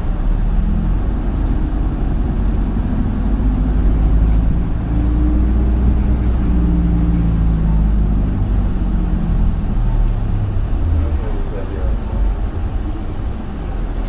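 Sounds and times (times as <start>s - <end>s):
bus diesel engine rumble: 0.0s - 14.0s.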